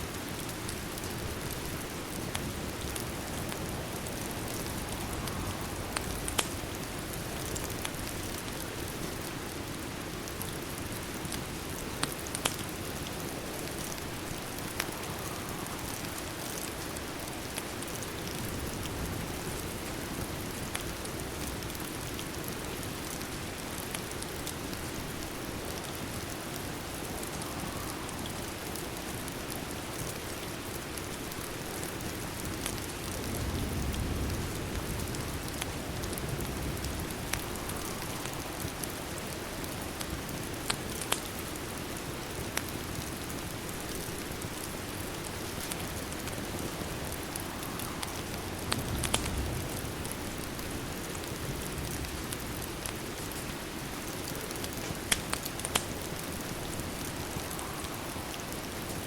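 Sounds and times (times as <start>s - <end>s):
rain pattering: 0.0s - 59.0s
wood fire crackling: 0.0s - 59.0s.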